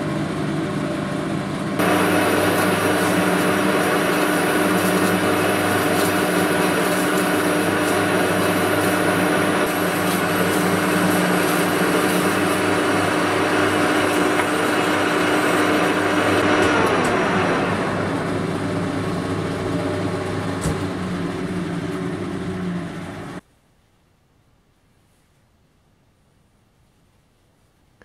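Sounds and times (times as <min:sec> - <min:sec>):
lathe humming with gear whine: 0:00.0 - 0:23.4.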